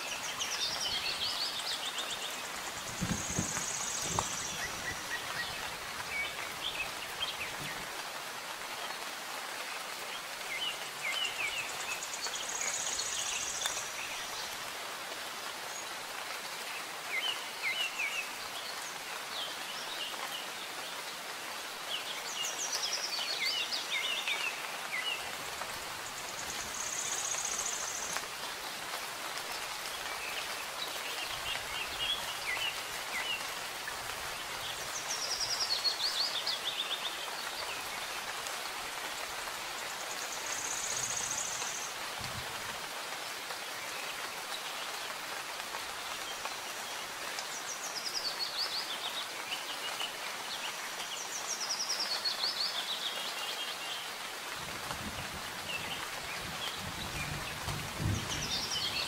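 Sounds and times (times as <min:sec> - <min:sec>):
soft rain falling: 0:00.0 - 0:59.0
songbirds chirping: 0:00.0 - 0:59.0.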